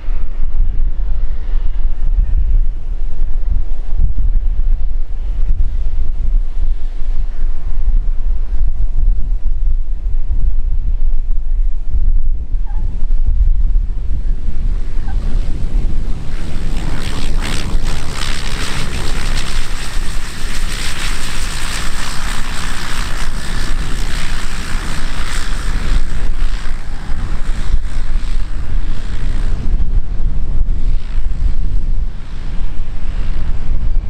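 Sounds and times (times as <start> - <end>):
turboprop engine rushing hiss: 0.0 - 34.0
wind rumble on microphone: 0.0 - 34.0.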